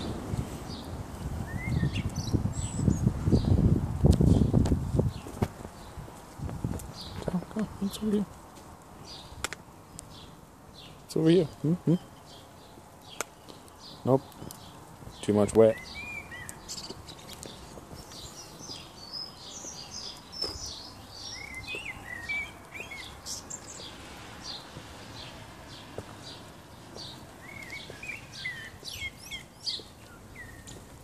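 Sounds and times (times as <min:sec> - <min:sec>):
outdoor background noise: 0:00.0 - 0:31.0
small birds chirping: 0:00.0 - 0:31.0.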